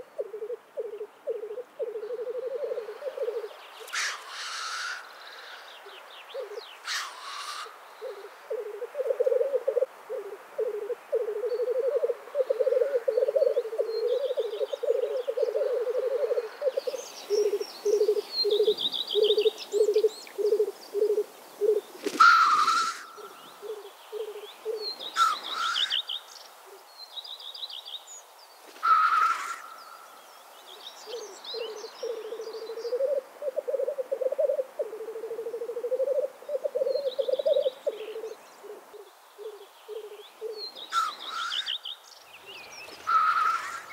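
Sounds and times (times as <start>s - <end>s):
grouse hissing calls: 0.0s - 26.8s, 28.8s - 29.8s, 31.1s - 41.8s, 43.0s - 43.9s
small birds trilling: 1.8s - 8.4s, 12.4s - 34.5s, 35.7s - 43.9s.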